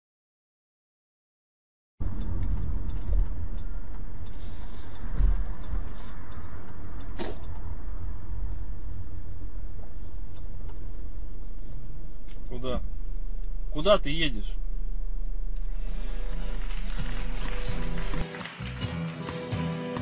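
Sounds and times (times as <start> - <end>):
car engine rumble: 2.0 - 18.3
road noise: 2.0 - 20.0.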